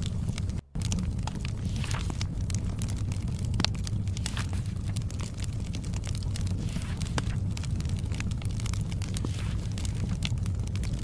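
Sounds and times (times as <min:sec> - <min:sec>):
fire pops and snaps: 0:00.0 - 0:11.0
low rumble of fire: 0:00.0 - 0:11.0.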